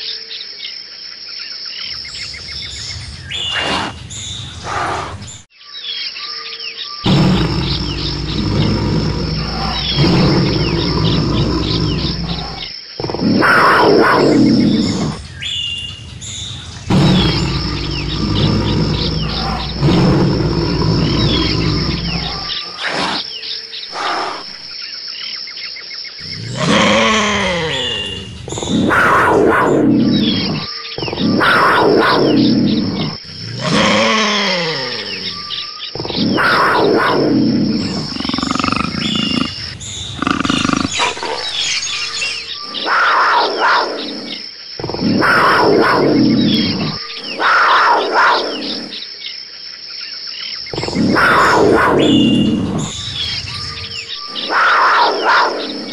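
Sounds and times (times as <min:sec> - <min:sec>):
birds chirping: 0:00.0 - 0:55.9
big cat roaring and growling: 0:02.7 - 0:05.4, 0:07.0 - 0:23.3, 0:26.2 - 0:49.0, 0:50.7 - 0:55.9.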